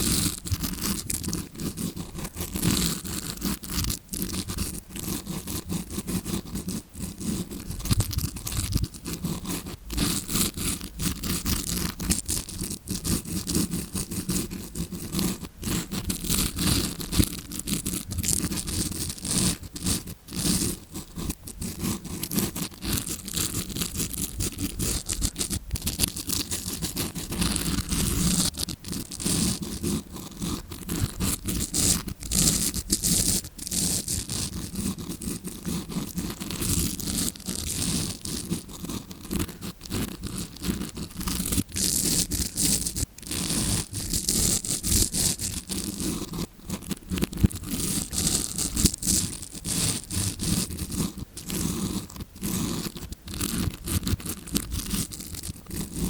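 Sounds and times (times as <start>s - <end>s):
brush scratching on microphone: 0.0s - 56.0s.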